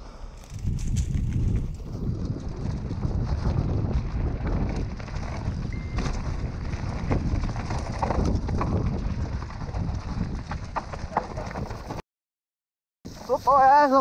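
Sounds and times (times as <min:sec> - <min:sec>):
bike tyre rumble: 0:00.0 - 0:12.0
bike rattles and clacks: 0:00.4 - 0:12.0
wind buffeting microphone: 0:00.4 - 0:12.0.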